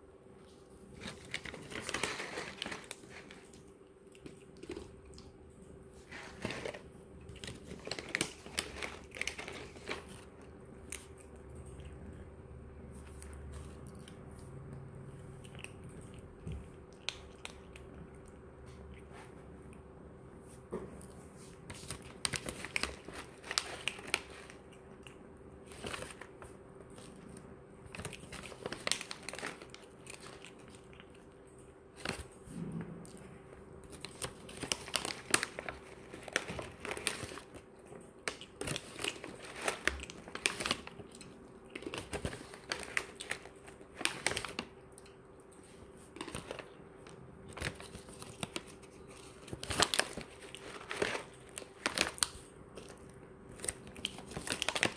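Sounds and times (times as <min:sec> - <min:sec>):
cats crunching and chewing food: 0:00.0 - 0:54.9.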